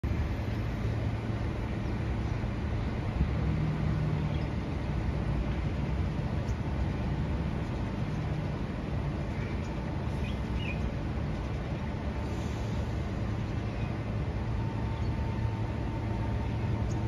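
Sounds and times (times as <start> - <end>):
distant electric train rumble: 0.0 - 17.0
low hum: 0.0 - 17.0
traffic noise: 0.0 - 17.0.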